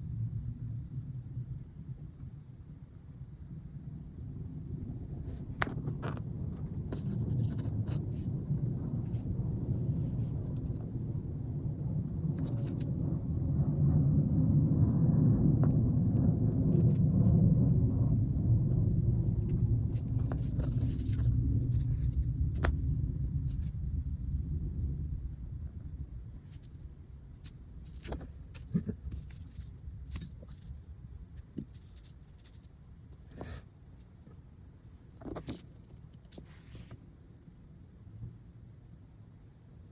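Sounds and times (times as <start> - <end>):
low steady rumble: 0.0 - 39.9.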